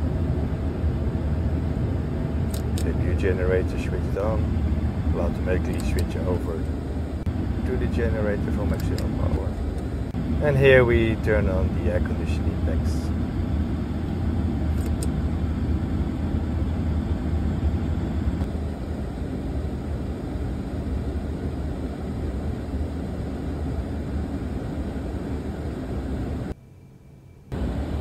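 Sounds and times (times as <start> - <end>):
low rumble and rushing air: 0.0 - 26.6.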